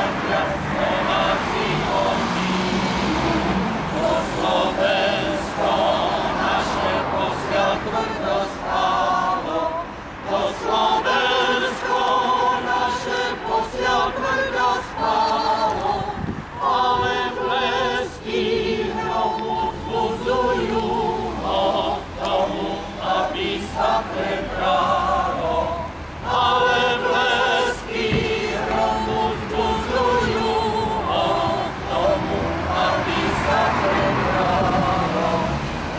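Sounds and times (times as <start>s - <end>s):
mixed choir singing: 0.0s - 35.9s.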